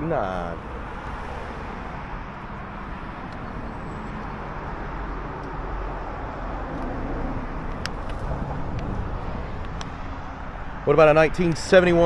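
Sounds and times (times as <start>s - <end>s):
vehicle traffic rumble: 0.0s - 12.0s.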